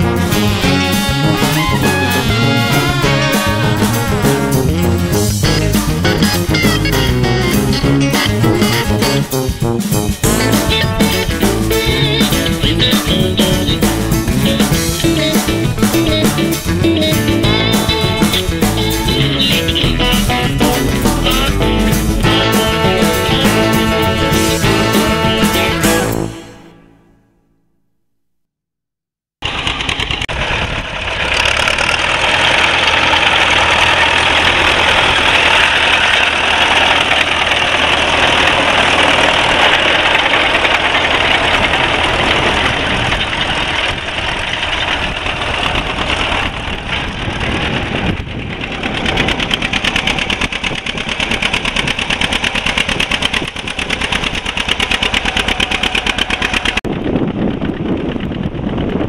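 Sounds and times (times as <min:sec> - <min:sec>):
tractor engines running under load: 0:00.0 - 0:26.4, 0:29.4 - 0:59.0.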